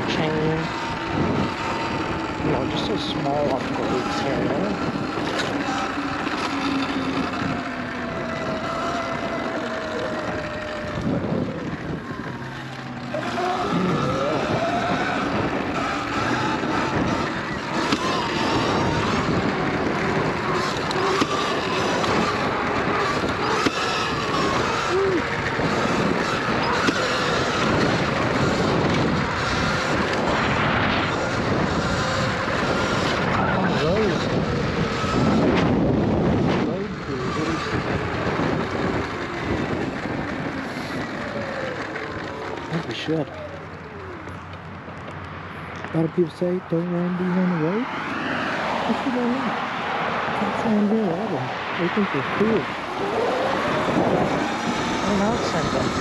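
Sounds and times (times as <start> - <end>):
electric motorbike motor whining: 0.0 - 56.0
wind rushing over microphone: 0.0 - 56.0.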